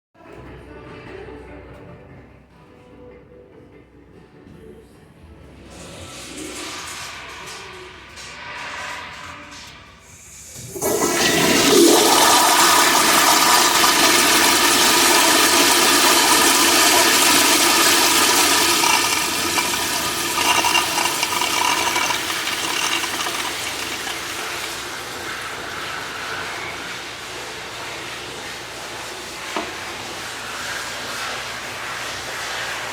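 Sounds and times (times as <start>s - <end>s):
toilet flushing water rush: 5.7s - 32.9s.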